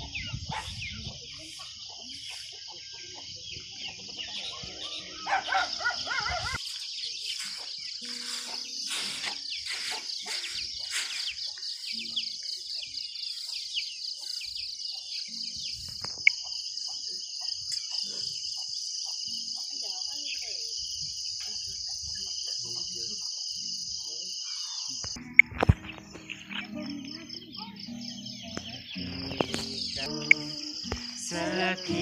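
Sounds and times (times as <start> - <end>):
birds chirping: 0.0 - 32.0
crickets trilling: 0.0 - 32.0.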